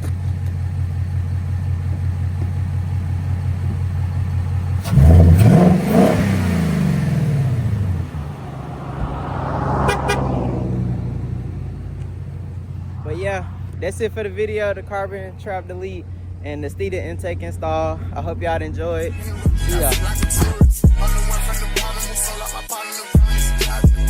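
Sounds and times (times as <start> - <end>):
car engine idling and revving: 0.0 - 22.6.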